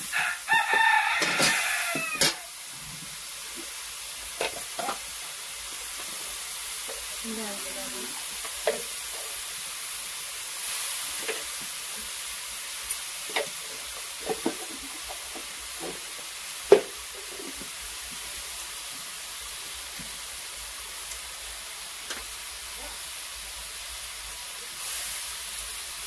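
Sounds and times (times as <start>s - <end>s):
spices sizzling in hot oil: 0.0s - 26.0s.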